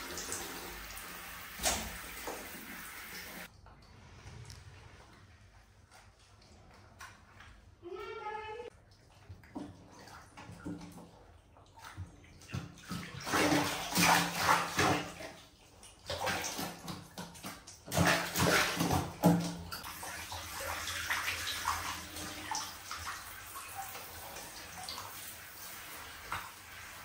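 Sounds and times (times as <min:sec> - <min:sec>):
bath water splashing: 0:00.0 - 0:04.3, 0:08.8 - 0:27.0.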